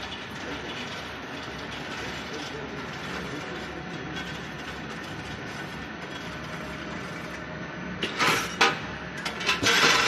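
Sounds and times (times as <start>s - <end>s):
machinery humming and rattling: 0.0s - 10.0s.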